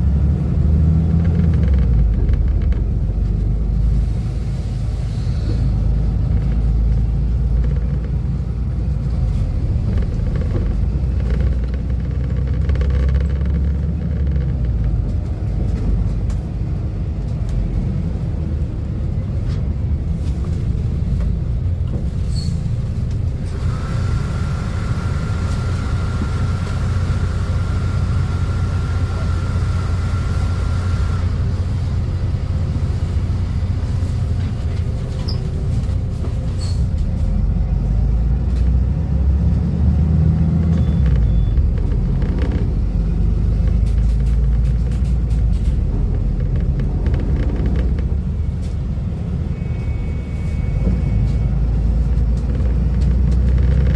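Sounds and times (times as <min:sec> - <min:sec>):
bus diesel engine rumbling: 0:00.0 - 0:53.9.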